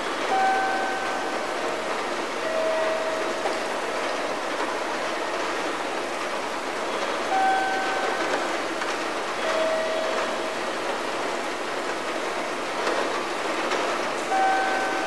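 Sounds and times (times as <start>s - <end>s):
station platform background noise: 0.0s - 15.0s.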